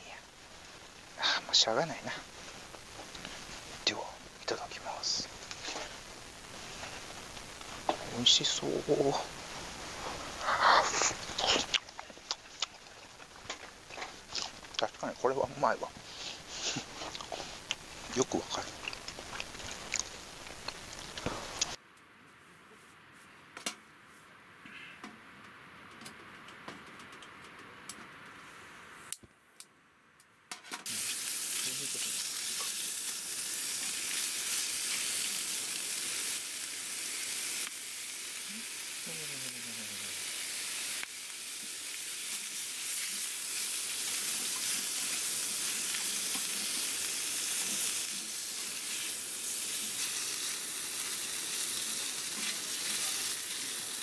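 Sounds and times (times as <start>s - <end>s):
squid sizzling in a frying pan: 0.1s - 21.8s, 30.8s - 54.0s.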